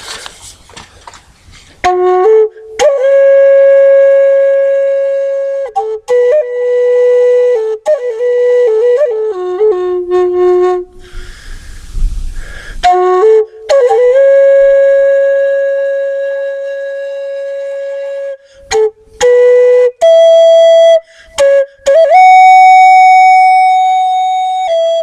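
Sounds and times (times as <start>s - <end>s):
slow flute music: 1.8s - 12.0s, 12.8s - 25.0s.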